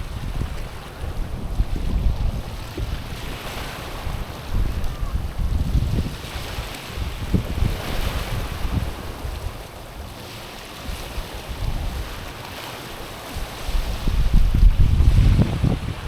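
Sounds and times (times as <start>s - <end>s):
waves on pebbly shore: 0.0s - 16.0s
wind buffeting microphone: 0.0s - 16.0s.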